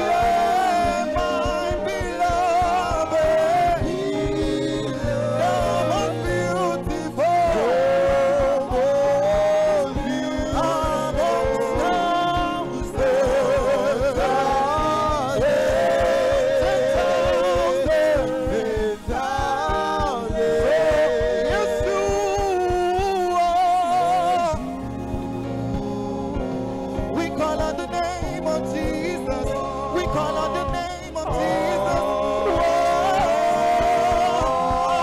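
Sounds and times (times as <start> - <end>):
band playing steady beat: 0.0 - 35.0
lead singer and choir singing: 0.0 - 35.0.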